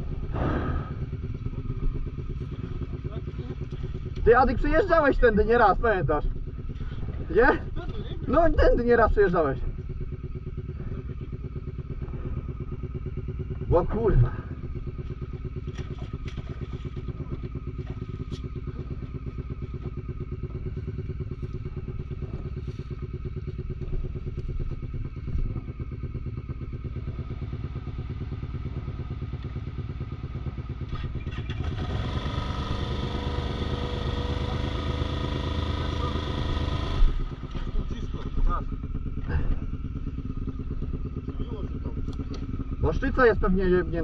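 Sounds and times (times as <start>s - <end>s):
quad bike engine idling: 0.0s - 44.0s.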